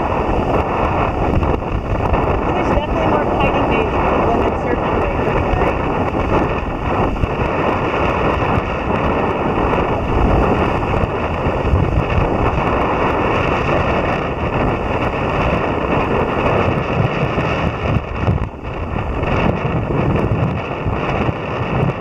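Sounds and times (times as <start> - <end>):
choppy waves: 0.0 - 22.0
strong wind on microphone: 0.0 - 22.0.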